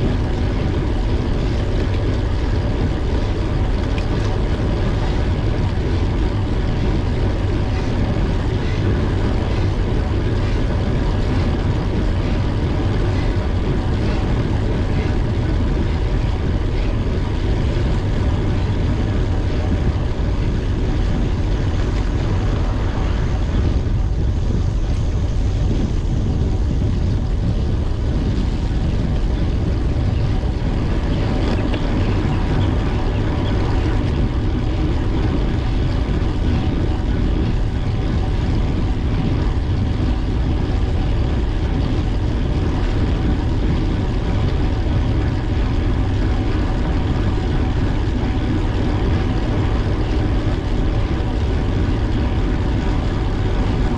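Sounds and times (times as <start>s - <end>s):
faint steady hum: 0.0s - 53.9s
wind rush on microphone: 0.0s - 53.9s.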